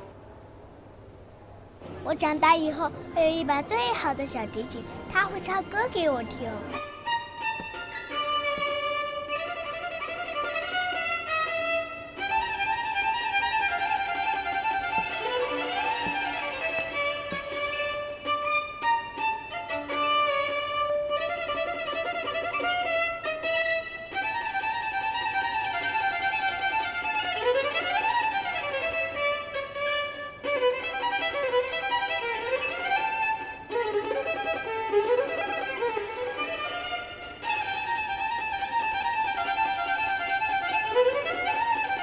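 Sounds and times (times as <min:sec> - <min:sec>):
violin melody: 0:02.8 - 0:42.0.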